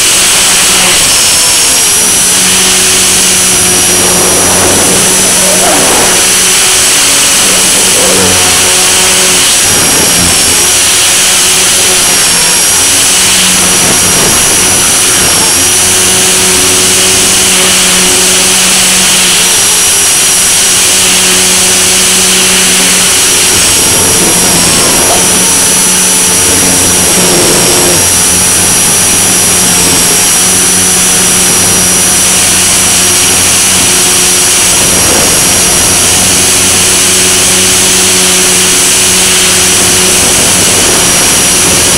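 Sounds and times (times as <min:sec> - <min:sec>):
helicopter motor whine: 0:00.0 - 0:41.9
rushing noise: 0:00.0 - 0:41.9.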